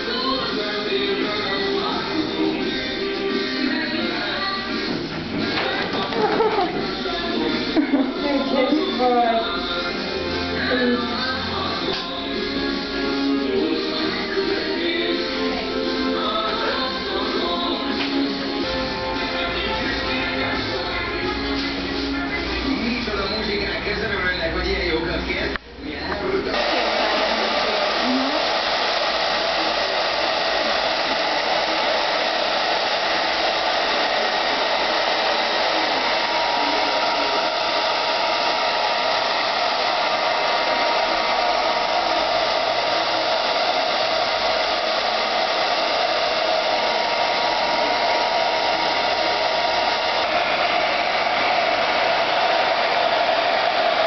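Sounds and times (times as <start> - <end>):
hair dryer blowing air: 0.0 - 22.2, 26.5 - 54.0.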